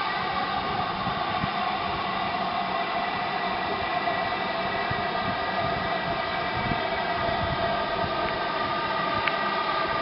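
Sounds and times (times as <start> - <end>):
steam locomotive hissing steam: 0.0 - 10.0.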